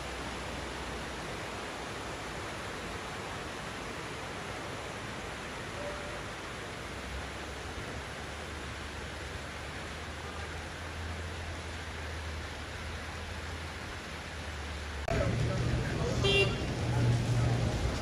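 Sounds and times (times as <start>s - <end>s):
outdoor noise hiss: 0.0s - 18.0s.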